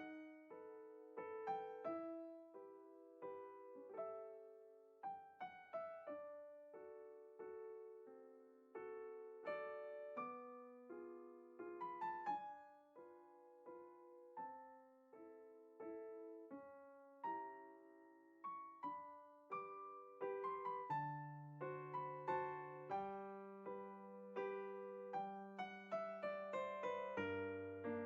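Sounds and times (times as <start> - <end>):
soft solo piano: 0.0 - 28.0.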